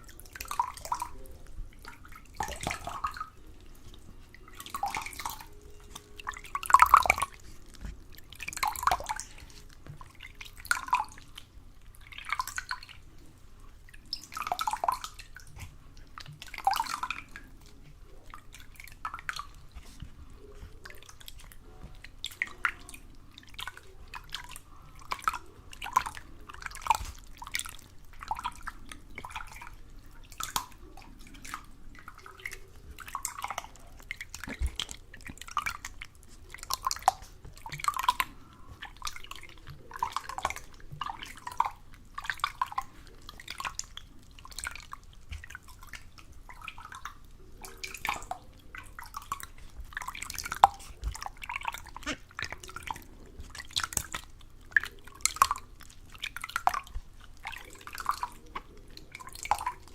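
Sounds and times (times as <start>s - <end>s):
water dripping and plopping: 0.0s - 59.9s.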